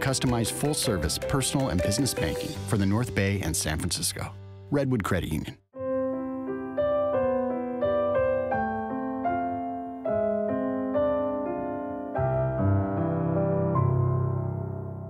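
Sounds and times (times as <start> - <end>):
gentle piano music: 0.0 - 4.3, 5.8 - 15.0.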